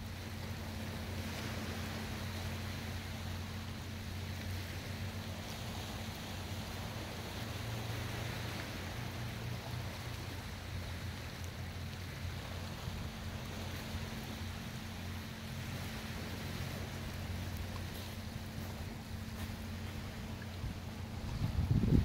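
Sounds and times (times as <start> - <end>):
low steady hum: 0.0 - 22.0
water lapping against seawall: 0.0 - 22.0.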